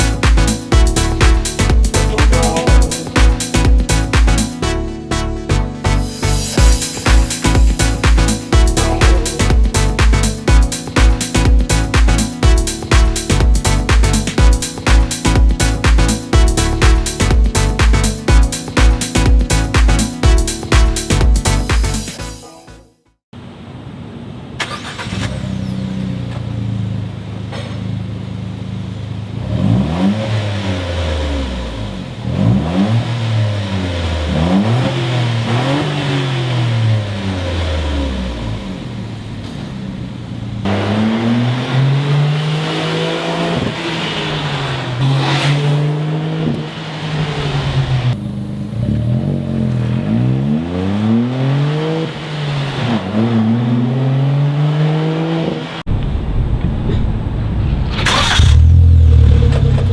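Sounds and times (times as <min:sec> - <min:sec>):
car engine revving: 0:00.0 - 0:22.2, 0:29.0 - 0:59.9.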